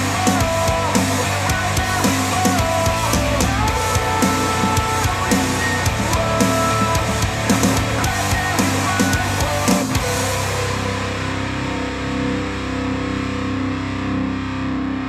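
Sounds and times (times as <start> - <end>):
distorted electric guitar chord ringing: 0.0 - 15.0.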